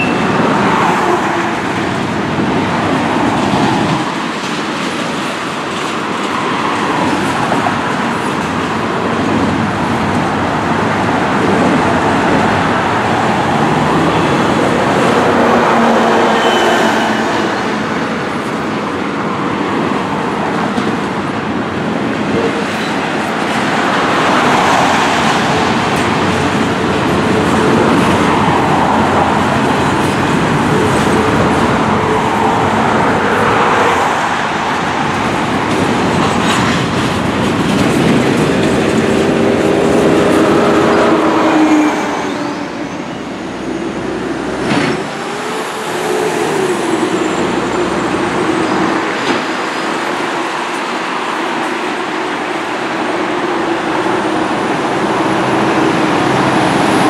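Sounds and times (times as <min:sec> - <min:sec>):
freight train wheels rumbling on rail: 0:00.0 - 0:57.0
highway traffic passing: 0:00.0 - 0:57.0.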